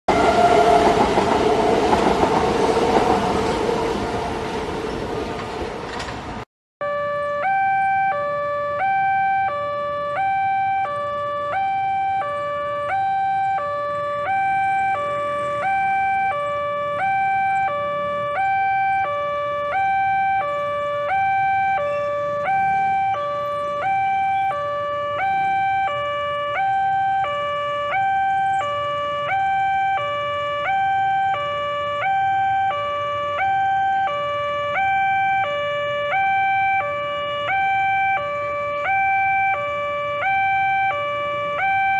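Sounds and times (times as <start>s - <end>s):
level crossing two-tone alarm: 6.8s - 41.9s.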